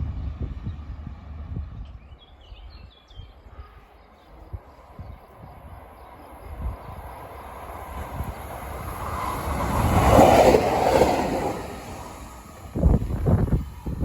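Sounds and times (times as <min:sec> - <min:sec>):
train passing rumble: 0:00.0 - 0:02.6, 0:03.3 - 0:14.0.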